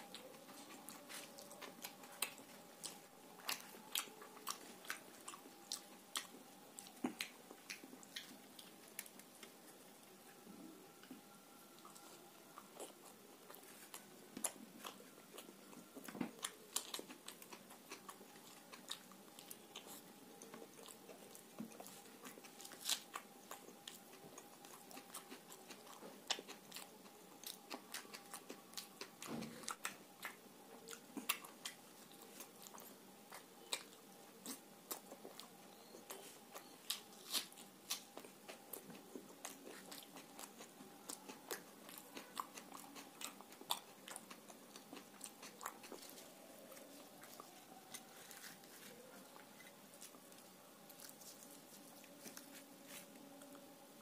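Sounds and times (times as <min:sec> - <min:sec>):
faint steady hum: 0:00.0 - 0:54.0
person chewing with clicks: 0:00.1 - 0:09.6, 0:11.8 - 0:53.6.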